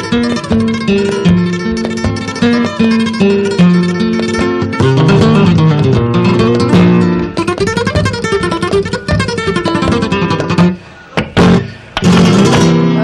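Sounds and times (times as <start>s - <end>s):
flamenco guitar strumming: 0.0s - 13.0s.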